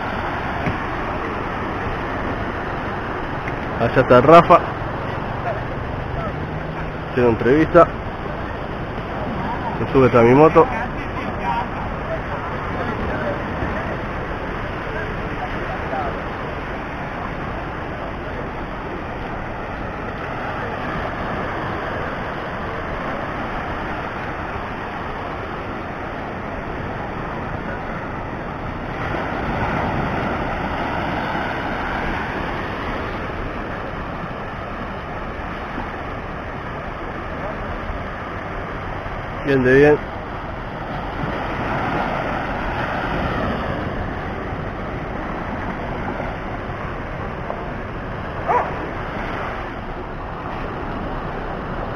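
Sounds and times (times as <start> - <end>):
small waves breaking on sand: 0.0 - 51.9.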